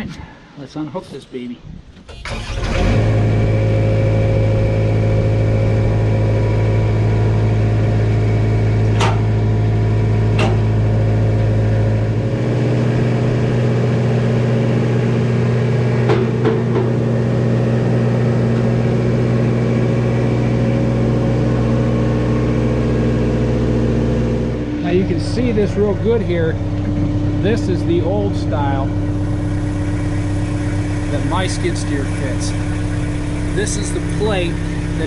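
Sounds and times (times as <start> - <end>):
engine idling: 2.1 - 35.0.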